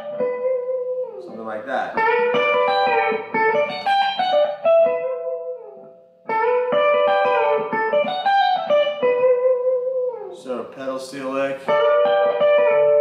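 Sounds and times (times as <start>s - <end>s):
electric guitar lick with bent notes: 0.0s - 13.0s.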